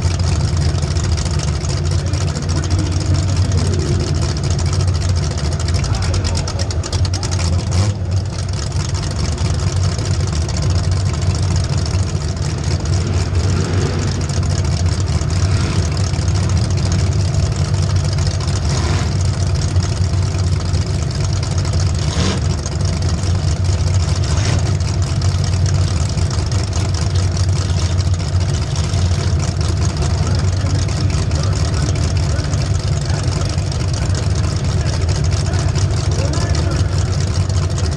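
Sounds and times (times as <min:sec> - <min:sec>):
race engine droning: 0:00.0 - 0:37.9.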